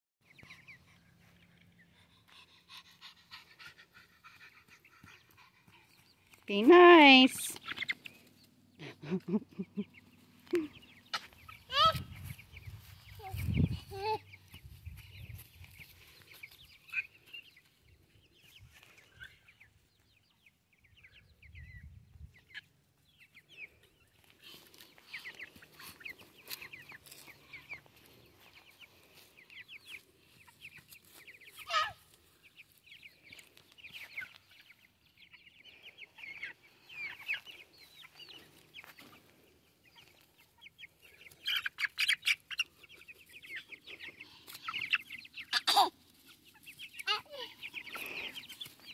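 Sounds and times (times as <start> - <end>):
chicks peeping: 0.2 - 48.9.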